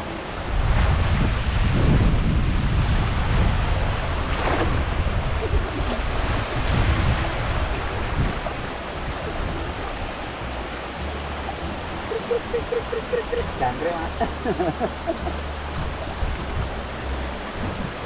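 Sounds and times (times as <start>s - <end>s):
river water rushing over weir: 0.0s - 18.0s
wind buffeting microphone: 0.0s - 18.0s.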